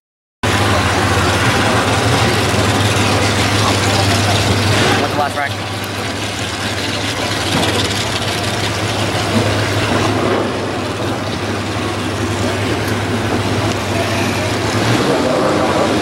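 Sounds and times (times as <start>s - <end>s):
car engines idling: 0.4s - 16.0s.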